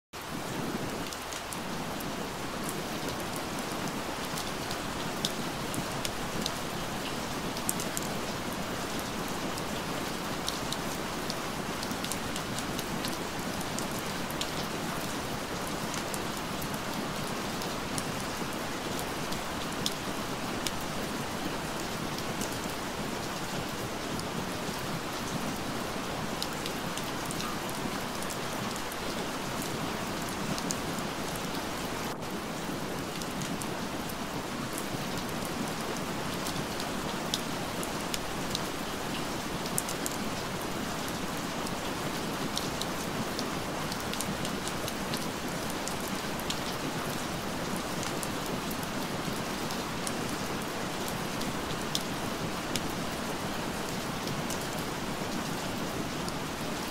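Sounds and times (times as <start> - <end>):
steady rain falling: 0.2 - 56.9.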